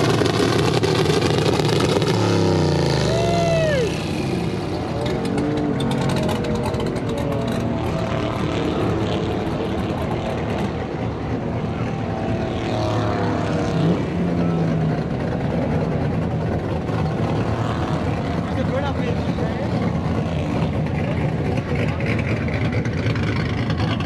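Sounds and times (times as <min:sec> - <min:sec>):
truck engines running loudly: 0:00.0 - 0:24.0.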